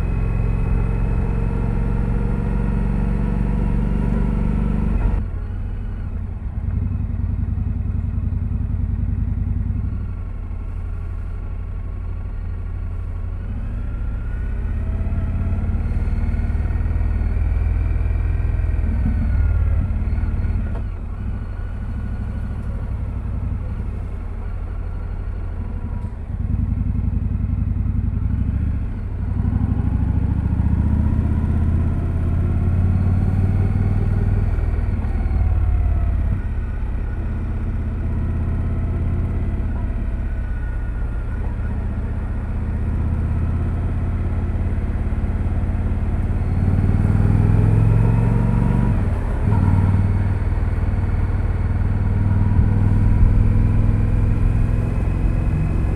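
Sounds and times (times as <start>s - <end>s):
motorcycle engine rumbling: 0.0s - 55.9s.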